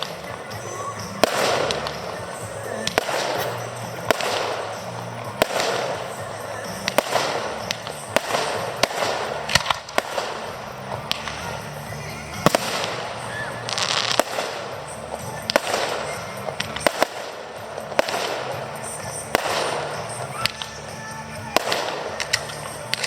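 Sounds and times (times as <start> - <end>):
firework hiss: 0.0 - 23.0
firework shells bursting: 0.0 - 23.0.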